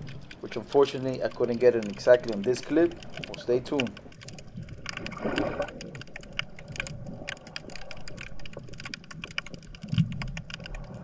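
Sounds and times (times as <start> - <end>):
underwater crackling clicks: 0.0 - 11.0.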